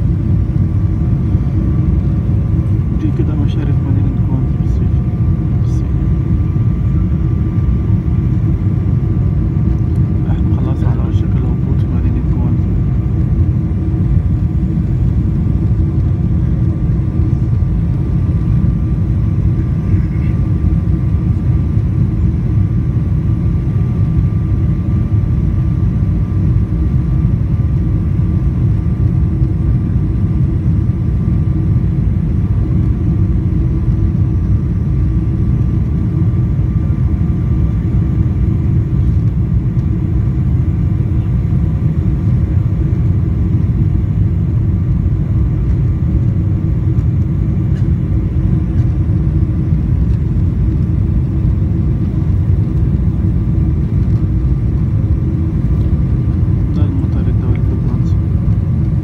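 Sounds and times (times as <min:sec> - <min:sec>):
faint steady hum tones: 0:00.0 - 0:59.0
jet cabin rumble: 0:00.0 - 0:59.0.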